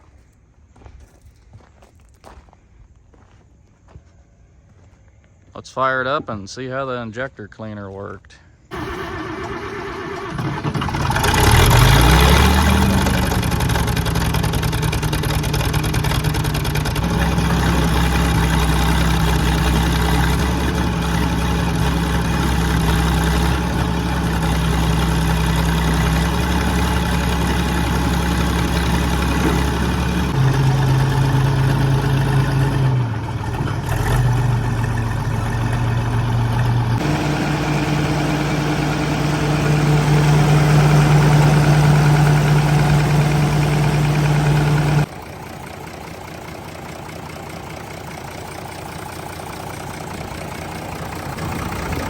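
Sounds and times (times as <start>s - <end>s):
diesel engine revving: 8.7s - 52.0s.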